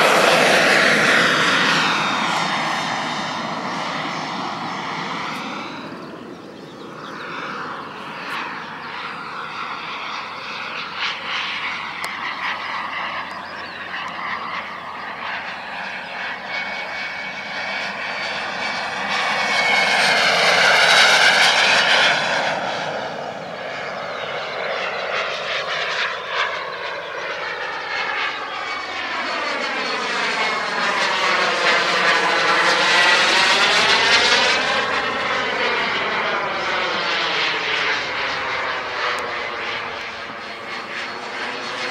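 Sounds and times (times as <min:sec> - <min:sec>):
model jet turbine whine: 0:00.0 - 0:41.9.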